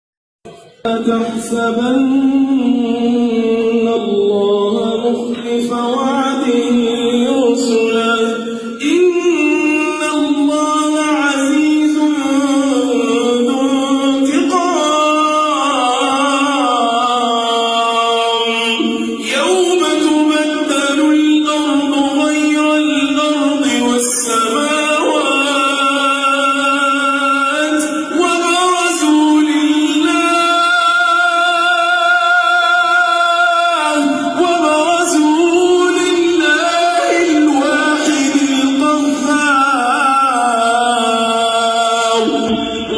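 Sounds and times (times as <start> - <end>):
man chanting recitation: 0.5 - 42.9
solo voice singing: 0.5 - 42.9.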